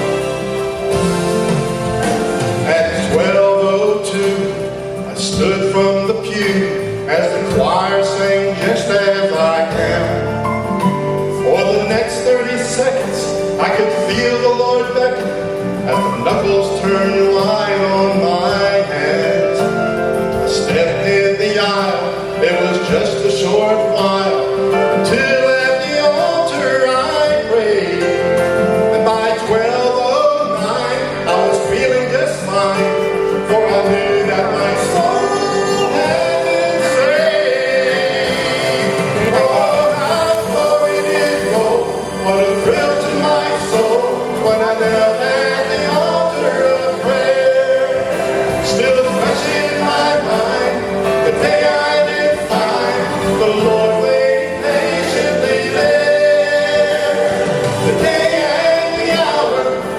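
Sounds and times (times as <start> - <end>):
instrumental accompaniment: 0.0 - 59.9
man singing gospel: 0.0 - 59.9.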